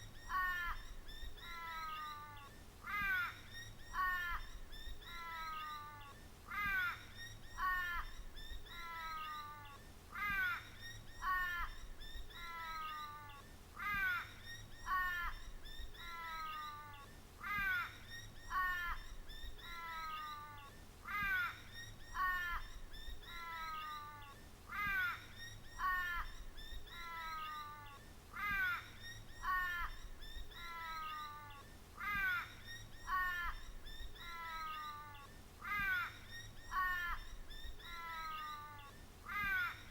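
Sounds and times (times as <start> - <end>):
two-part call-like cry: 0.0 - 39.9.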